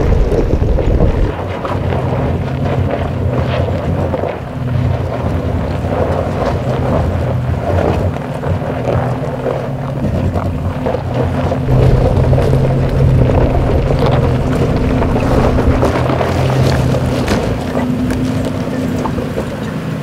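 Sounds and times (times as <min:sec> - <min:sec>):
engine humming: 0:02.0 - 0:20.0.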